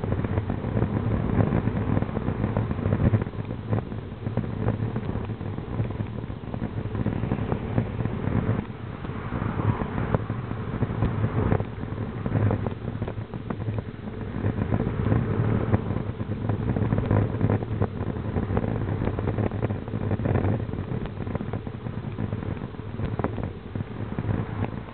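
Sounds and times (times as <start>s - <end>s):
road noise: 0.0s - 24.9s
wind rumbling on microphone: 0.0s - 24.9s.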